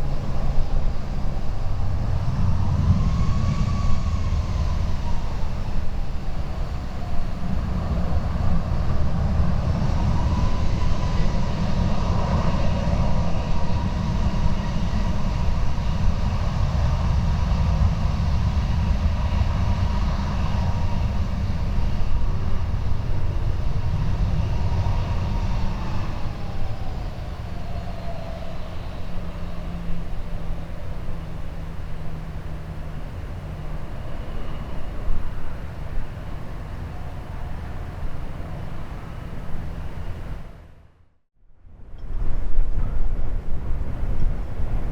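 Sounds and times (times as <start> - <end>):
jet engines whining: 0.0 - 40.7
wind rumble on microphone: 0.0 - 44.9.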